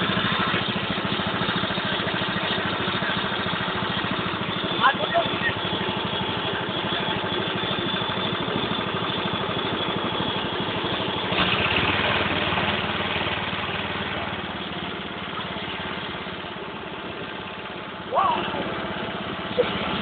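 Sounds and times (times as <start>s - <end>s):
petrol engine chugging: 0.0s - 20.0s.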